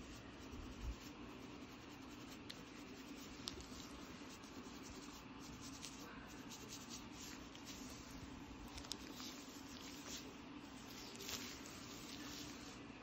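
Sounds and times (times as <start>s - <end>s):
comb scratching through hair: 0.0s - 13.0s.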